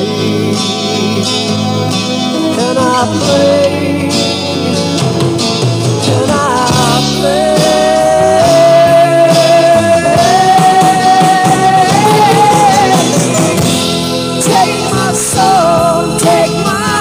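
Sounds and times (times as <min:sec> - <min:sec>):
slow rock ballad: 0:00.0 - 0:17.0.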